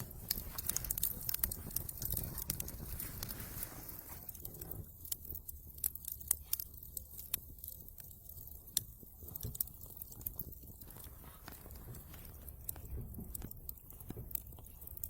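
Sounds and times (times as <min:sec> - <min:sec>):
fire pops and snaps: 0:00.0 - 0:15.0
low fire rumble: 0:00.0 - 0:15.0
wood fire crackling: 0:00.0 - 0:15.0.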